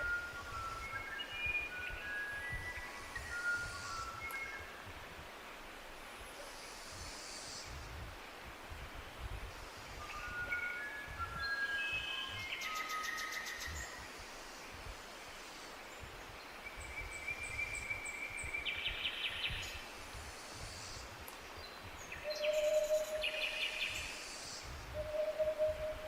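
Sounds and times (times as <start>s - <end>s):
faint low wind rumble: 0.0s - 26.0s.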